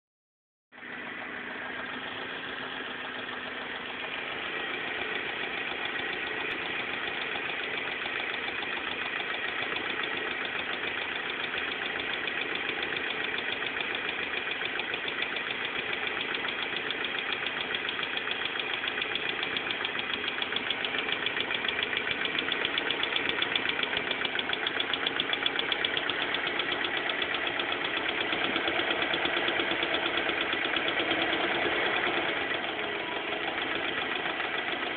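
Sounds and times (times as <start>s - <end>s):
car engine running: 0.7s - 34.9s.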